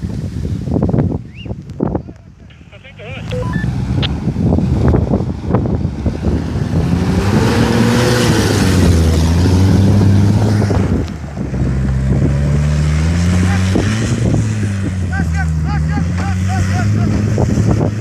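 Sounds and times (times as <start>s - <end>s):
wind on microphone: 0.0s - 15.2s, 16.8s - 18.0s
car engine labouring: 1.8s - 18.0s.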